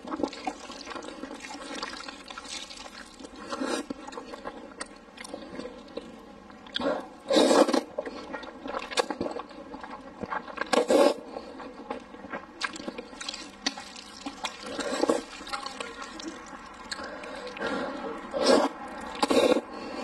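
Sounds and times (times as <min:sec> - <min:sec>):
wet chewing and smacking: 0:00.0 - 0:19.7
noodles being slurped: 0:00.0 - 0:20.0.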